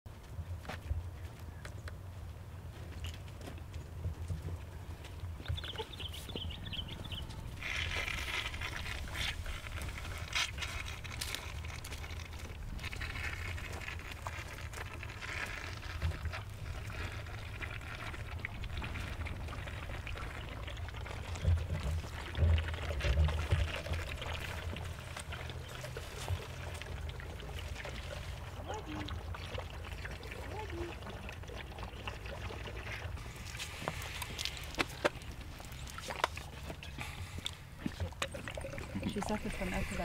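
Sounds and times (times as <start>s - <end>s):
elephants sucking and slurping milk: 5.2s - 40.0s.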